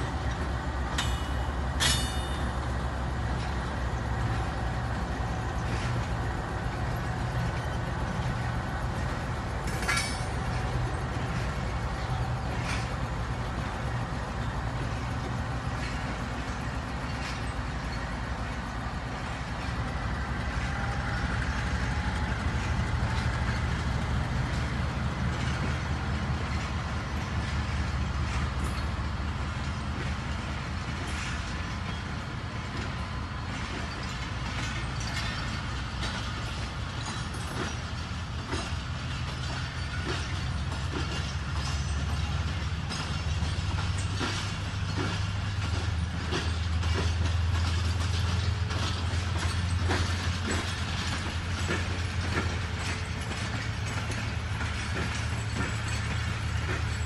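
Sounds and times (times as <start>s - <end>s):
diesel locomotive engine drone: 0.0s - 57.0s
train wheels clicking over rail joints: 0.0s - 57.0s.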